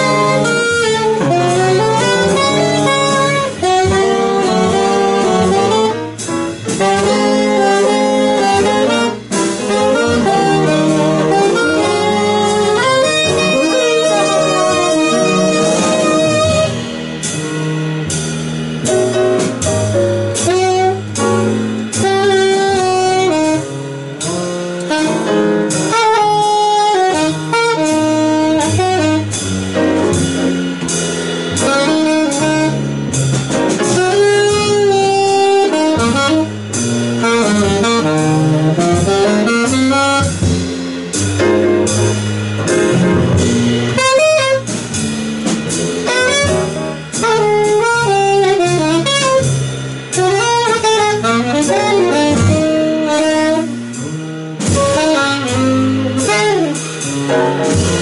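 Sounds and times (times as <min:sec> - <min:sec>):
saxophones playing melody: 0:00.0 - 0:18.2, 0:18.9 - 0:58.0
double bass: 0:00.0 - 0:58.0
drums: 0:00.0 - 0:58.0
piano: 0:00.0 - 0:58.0.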